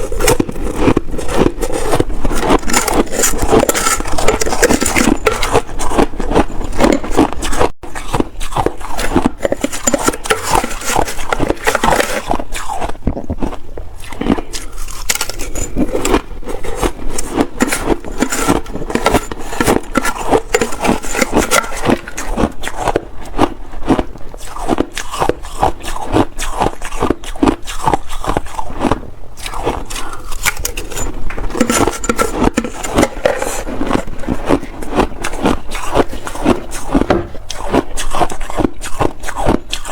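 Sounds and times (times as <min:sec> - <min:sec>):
chewing shaved ice: 0:00.0 - 0:39.9.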